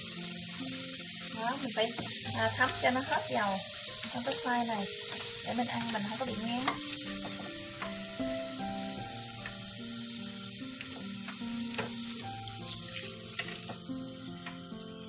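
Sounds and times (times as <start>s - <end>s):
fries sizzling in hot oil: 0.0s - 15.0s
soft background music: 0.0s - 15.0s.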